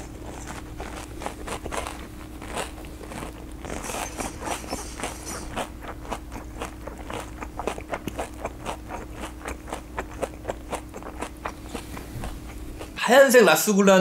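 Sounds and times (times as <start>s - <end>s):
wet crisp chewing: 0.0s - 13.0s.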